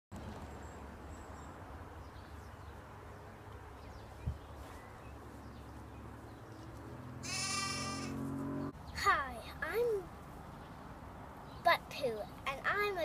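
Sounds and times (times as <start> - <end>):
outdoor background rumble: 0.2 - 13.0.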